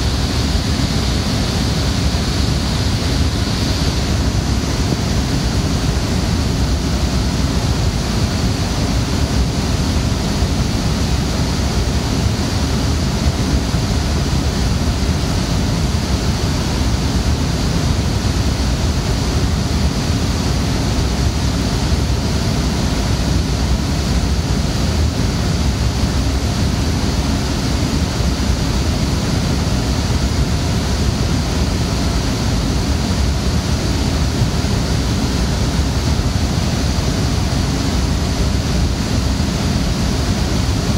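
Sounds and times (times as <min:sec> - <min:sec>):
server cooling fans whooshing: 0:00.0 - 0:40.9.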